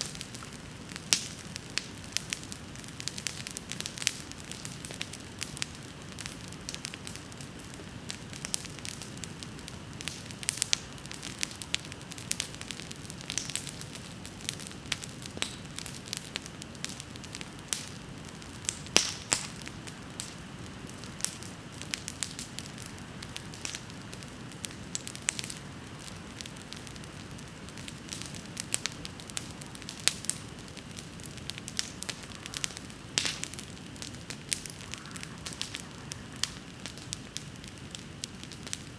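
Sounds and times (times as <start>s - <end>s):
bonfire flame rumble: 0.0s - 38.9s
fire crackling and popping: 0.0s - 38.9s.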